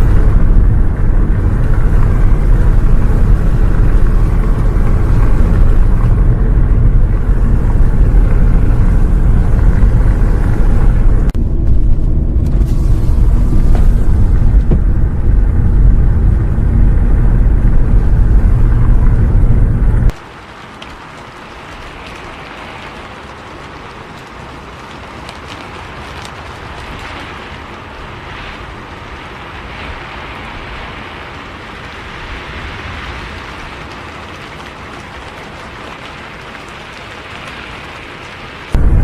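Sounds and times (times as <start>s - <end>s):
rain hissing: 0.0s - 39.0s
road and engine rumble: 0.0s - 39.0s
sharp raindrop hits: 0.0s - 39.0s.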